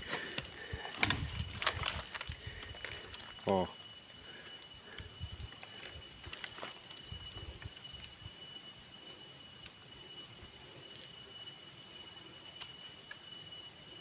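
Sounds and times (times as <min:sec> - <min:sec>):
forest insects whining: 0:00.0 - 0:14.0.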